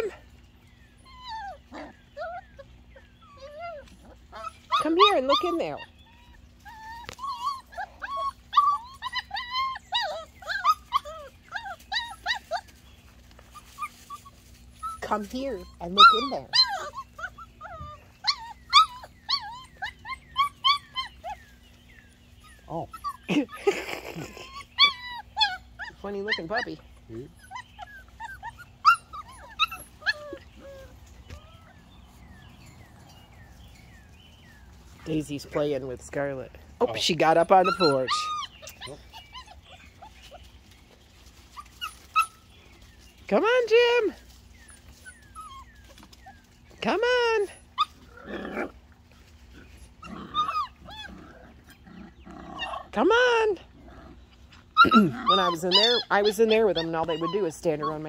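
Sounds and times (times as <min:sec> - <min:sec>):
puppies whining and yipping: 0:00.0 - 0:58.0.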